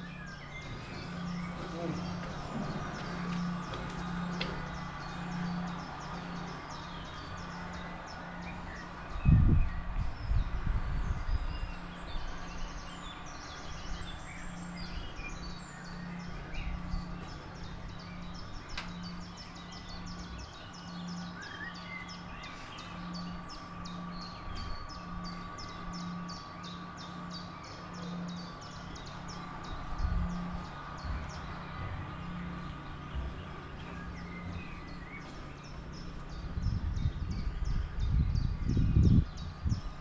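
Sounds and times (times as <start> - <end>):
birds singing: 0.0 - 40.0.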